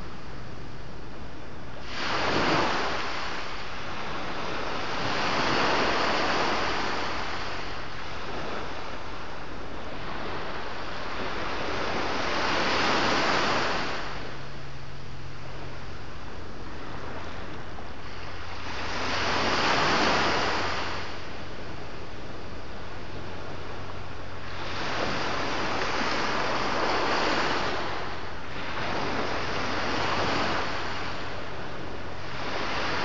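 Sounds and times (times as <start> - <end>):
sea waves washing in: 0.0 - 33.0.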